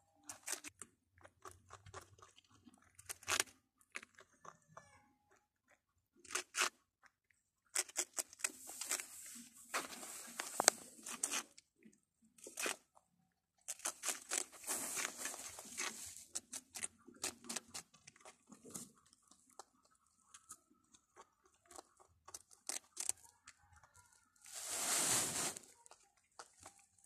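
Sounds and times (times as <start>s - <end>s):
rabbits nibbling and crunching food: 0.0s - 27.0s.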